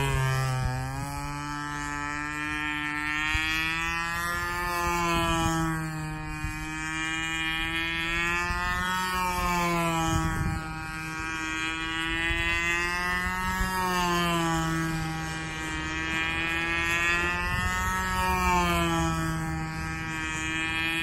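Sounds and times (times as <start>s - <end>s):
model airplane motor droning: 0.0s - 21.0s.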